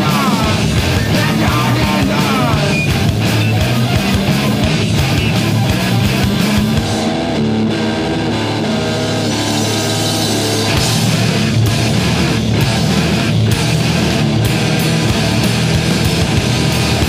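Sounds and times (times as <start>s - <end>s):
bass guitar: 0.0s - 17.0s
distorted electric guitar: 0.0s - 17.0s
drum kit: 0.0s - 17.0s.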